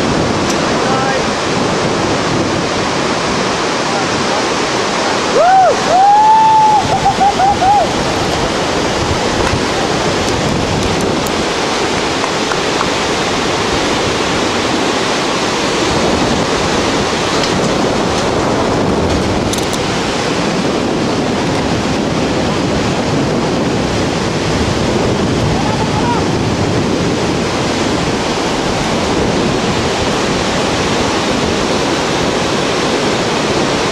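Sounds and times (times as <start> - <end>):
river rapids roaring: 0.0 - 33.9
wind on microphone: 0.0 - 33.9.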